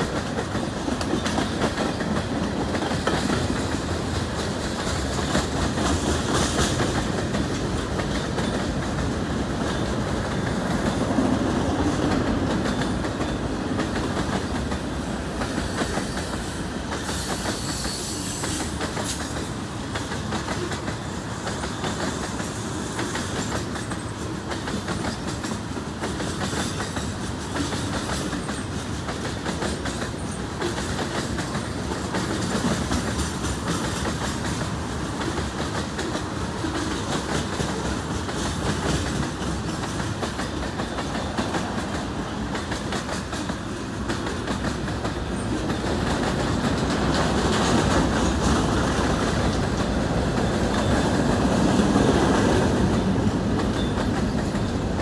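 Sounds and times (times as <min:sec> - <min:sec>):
steel wheels rolling on rail: 0:00.0 - 0:55.0.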